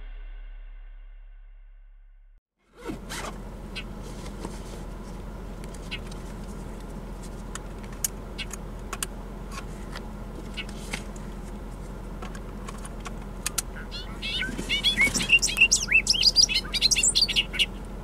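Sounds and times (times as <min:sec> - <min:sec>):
steady low hum: 0:02.8 - 0:18.0.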